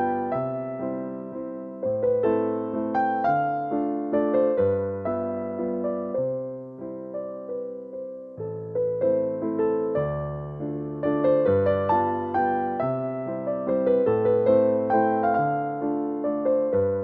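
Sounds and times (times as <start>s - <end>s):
slow electric piano melody: 0.0s - 17.0s.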